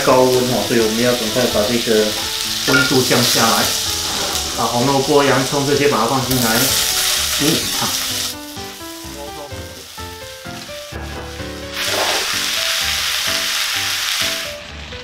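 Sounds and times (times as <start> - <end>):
vegetables sizzling in butter: 0.0 - 15.0.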